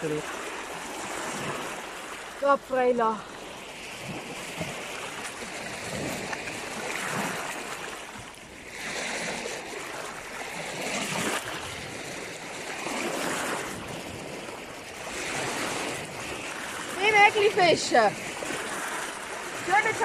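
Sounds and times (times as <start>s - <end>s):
waves lapping on pebble shore: 0.0s - 20.0s.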